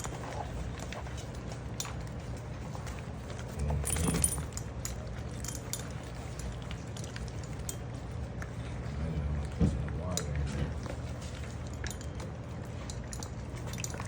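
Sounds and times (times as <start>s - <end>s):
low steady hum: 0.0s - 14.0s
puppies eating dry food: 0.0s - 14.0s.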